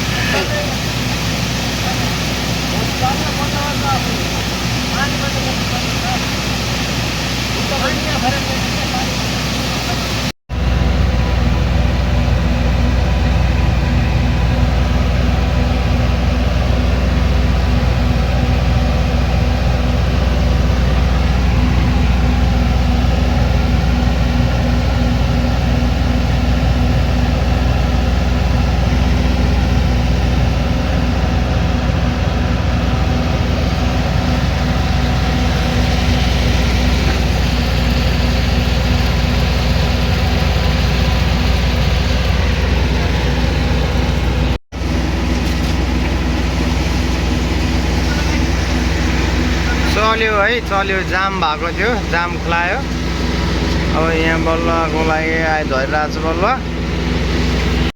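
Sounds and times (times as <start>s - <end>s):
heavy machinery engine drone: 0.0s - 57.9s.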